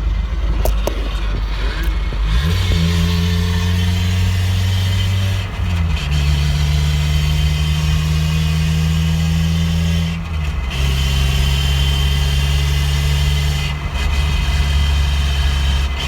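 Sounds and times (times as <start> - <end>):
car engine and drivetrain: 0.0 - 16.0.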